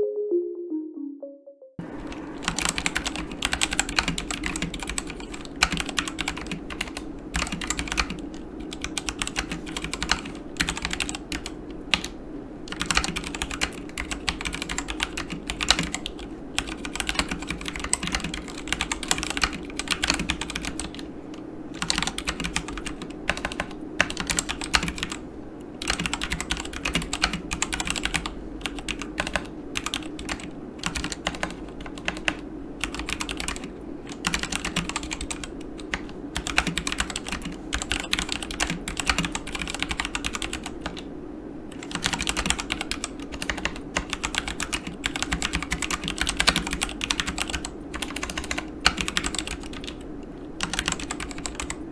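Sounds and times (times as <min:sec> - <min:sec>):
mechanical keyboard typing: 0:02.0 - 0:12.1, 0:12.7 - 0:21.0, 0:21.8 - 0:25.2, 0:25.8 - 0:41.0, 0:41.7 - 0:51.8.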